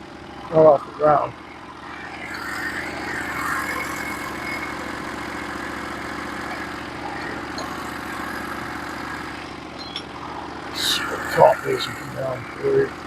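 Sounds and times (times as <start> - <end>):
sawmill engine idling: 0.0 - 13.0.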